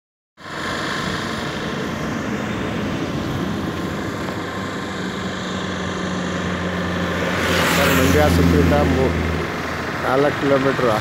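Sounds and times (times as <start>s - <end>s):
highway traffic rushing: 0.4s - 11.0s
wind: 0.4s - 11.0s.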